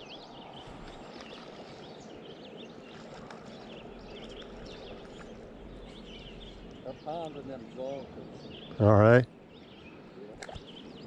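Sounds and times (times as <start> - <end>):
small birds chirping: 0.0 - 11.0
stream water flowing: 0.0 - 11.0.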